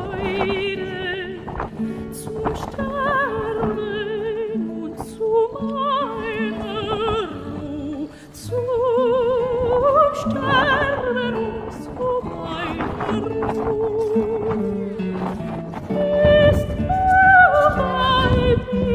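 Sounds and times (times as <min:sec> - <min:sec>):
operatic singing with vibrato: 0:00.0 - 0:18.9.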